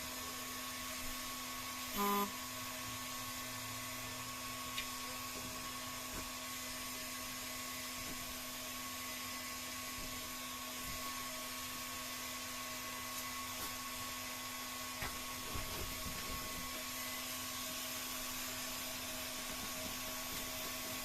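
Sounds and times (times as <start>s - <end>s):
heat gun humming and hissing: 0.0s - 21.0s.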